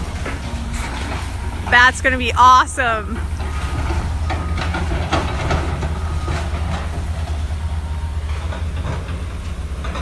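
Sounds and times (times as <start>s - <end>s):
knocks and clanks: 0.0s - 2.1s, 3.2s - 7.6s, 8.2s - 10.0s
demolition machinery rumbling: 0.0s - 10.0s.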